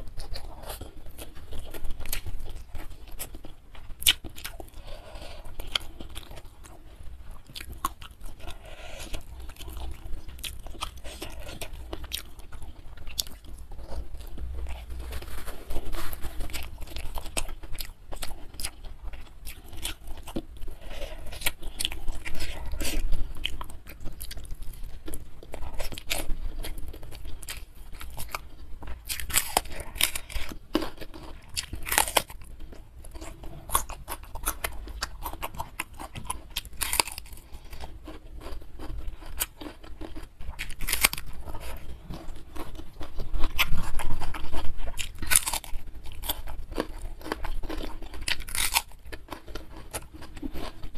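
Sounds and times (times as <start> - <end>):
crunchy chewing: 0.0 - 50.9.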